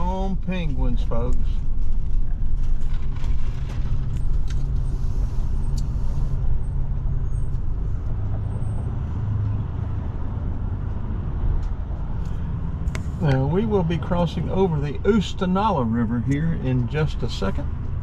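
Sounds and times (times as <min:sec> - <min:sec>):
motorhome engine and tyres droning: 0:00.0 - 0:18.0.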